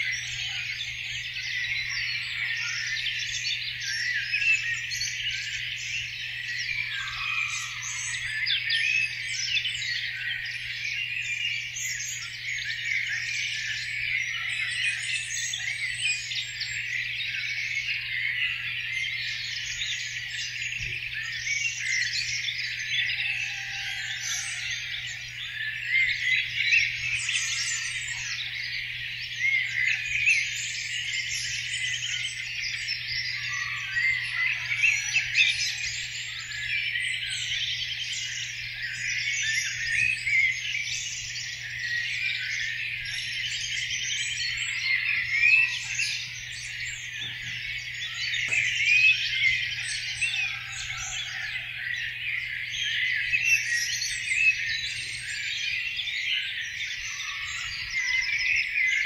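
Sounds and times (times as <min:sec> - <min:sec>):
songbirds dawn chorus: 0:00.0 - 0:59.0.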